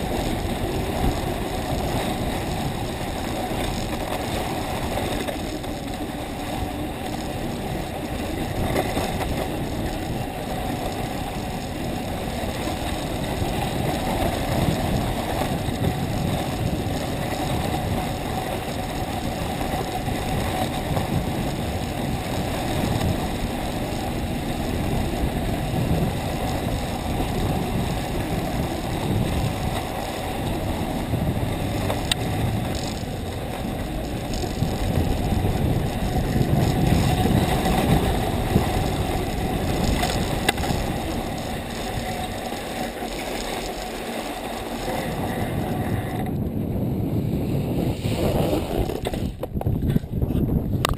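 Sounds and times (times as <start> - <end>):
runners sliding over packed snow: 0.0 - 50.4
wind on camera: 0.0 - 50.9.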